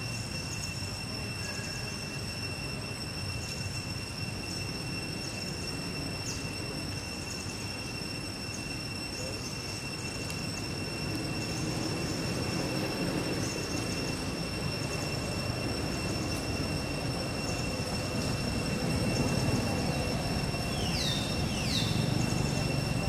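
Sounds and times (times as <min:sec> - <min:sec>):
faint chirps: 0:00.0 - 0:23.0
high-pitched whine: 0:00.0 - 0:23.0.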